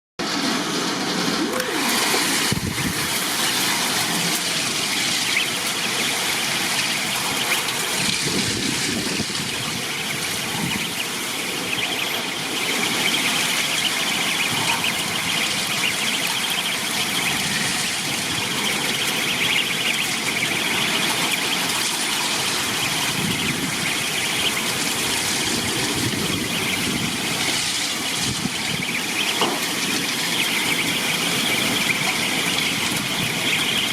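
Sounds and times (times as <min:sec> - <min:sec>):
heavy rain: 0:00.2 - 0:33.9
storm wind: 0:00.5 - 0:29.2.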